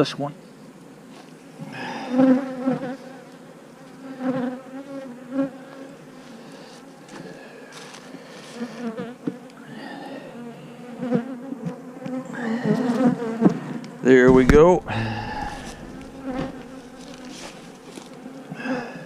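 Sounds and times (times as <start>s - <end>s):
honey bees buzzing: 1.6s - 19.0s.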